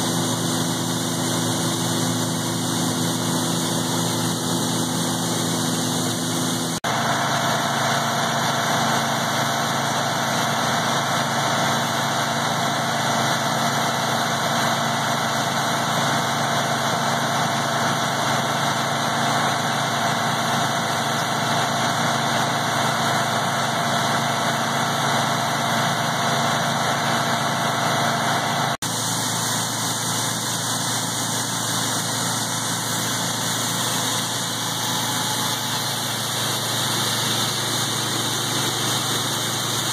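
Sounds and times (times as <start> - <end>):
tractor engine and mill drone: 0.0 - 39.9.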